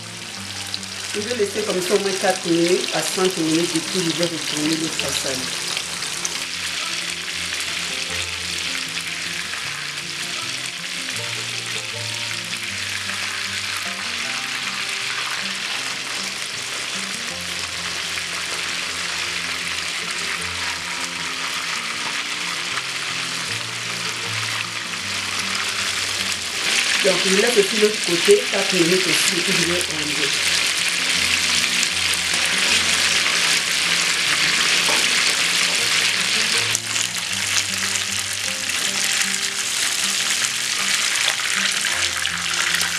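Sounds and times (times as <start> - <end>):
fish sizzling in hot oil: 0.0 - 42.9
low background music: 0.0 - 42.9.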